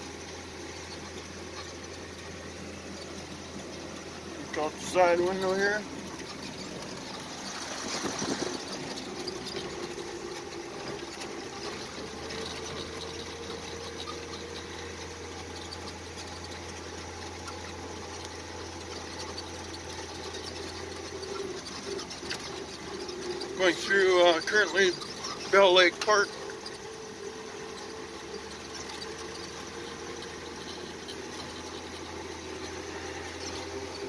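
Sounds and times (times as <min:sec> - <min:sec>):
truck engine running: 0:00.0 - 0:34.0
tyres hissing on gravel: 0:00.0 - 0:34.0.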